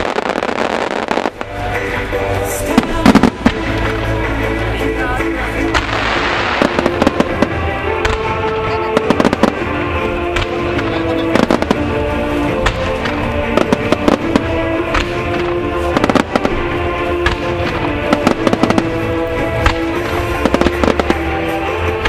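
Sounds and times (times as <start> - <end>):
fireworks bursts and bangs: 0.0 - 22.0
music playing: 0.0 - 22.0.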